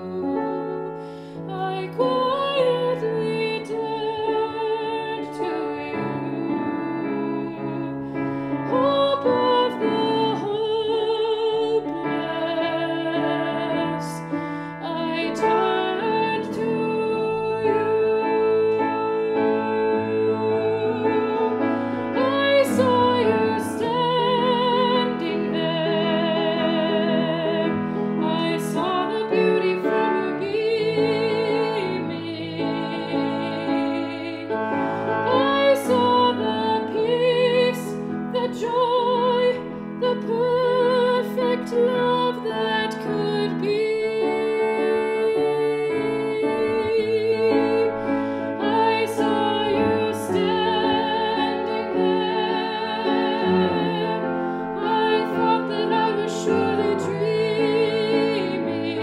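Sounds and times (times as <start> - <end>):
instrumental accompaniment: 0.0 - 59.0
woman singing with vibrato: 0.0 - 59.0.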